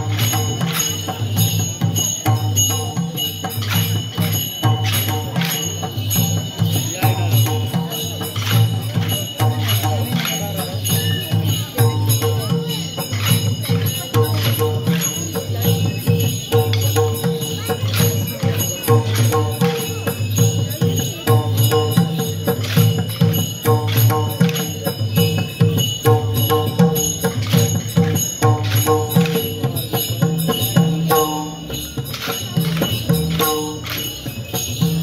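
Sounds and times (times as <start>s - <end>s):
cymbal and bell clashes: 0.0s - 35.0s
drums beating: 0.0s - 35.0s.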